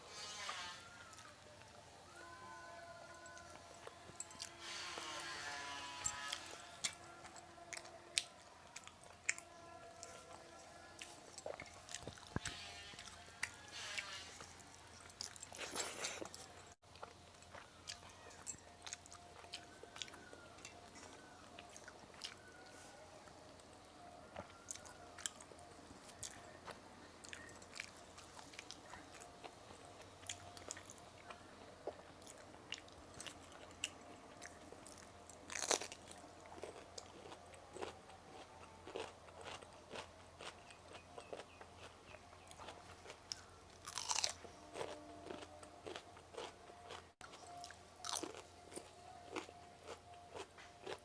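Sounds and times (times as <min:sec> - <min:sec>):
small crunches: 0:00.1 - 0:01.8, 0:03.2 - 0:23.4, 0:29.9 - 0:51.0
close chewing and biting food: 0:00.2 - 0:51.0.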